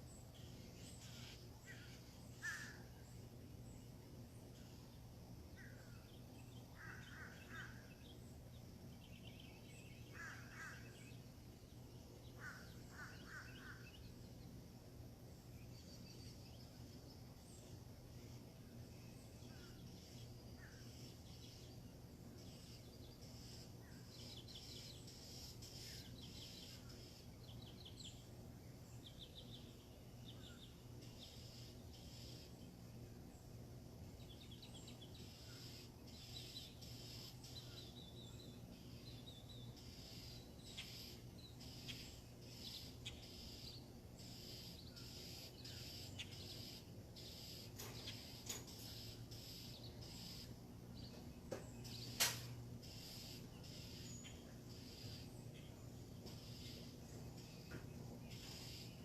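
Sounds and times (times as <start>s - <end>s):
birds chirping: 0.0s - 59.0s
steady low hum: 0.0s - 59.0s.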